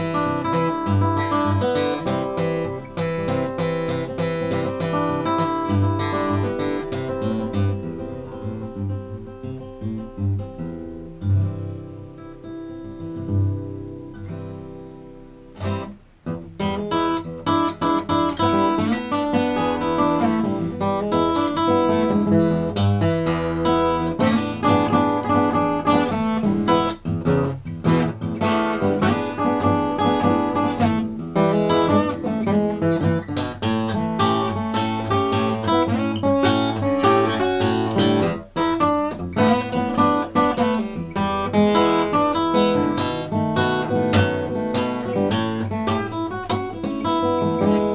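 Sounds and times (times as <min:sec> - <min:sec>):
acoustic guitar playing: 0:00.0 - 0:47.9.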